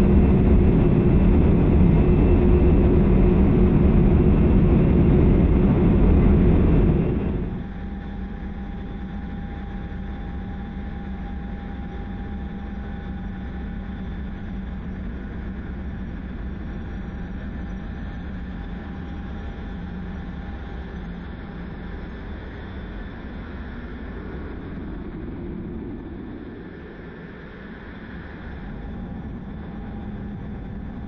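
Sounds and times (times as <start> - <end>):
faint high whine: 0.0 - 31.0
jet cockpit engine rumble: 0.0 - 31.0.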